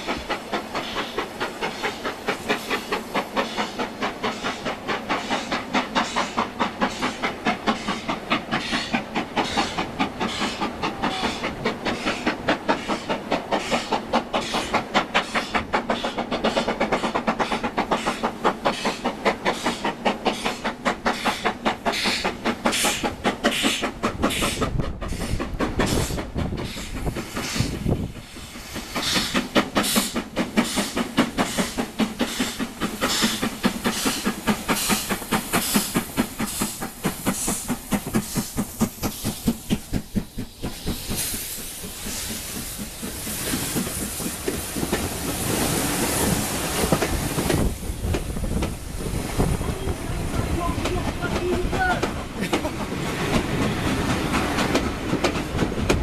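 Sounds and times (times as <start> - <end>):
steam hissing: 0.0 - 56.0
steam locomotive chugging: 0.0 - 56.0
train wheels clattering: 0.0 - 56.0.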